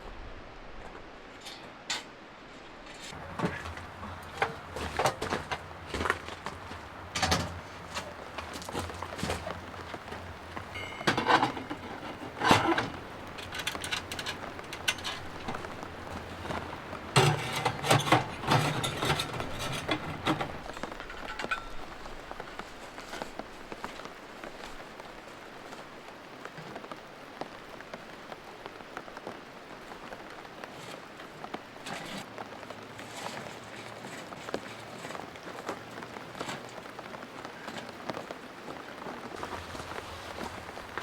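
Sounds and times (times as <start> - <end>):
steady rain falling: 0.0 - 41.0
knocks and rustles: 0.8 - 24.9, 30.6 - 41.0.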